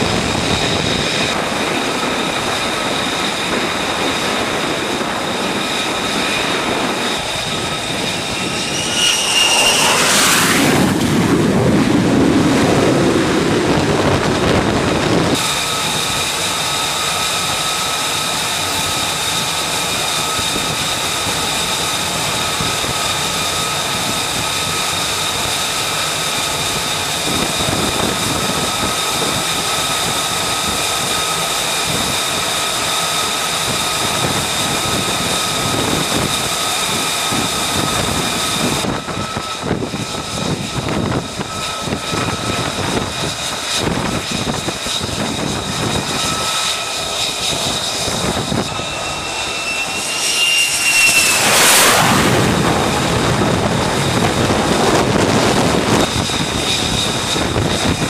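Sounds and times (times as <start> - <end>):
jet engine turbine whine: 0.0 - 58.0
jet noise rushing: 0.0 - 58.0.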